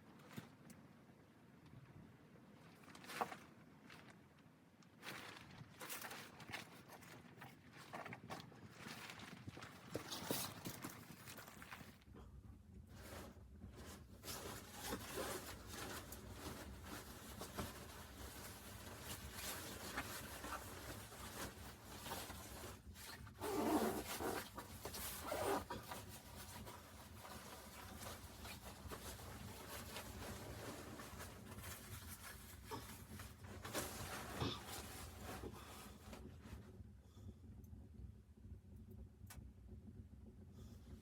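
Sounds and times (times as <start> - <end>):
low steady rumble: 0.0 - 41.0
rustling and scraping handling noises: 1.7 - 36.8.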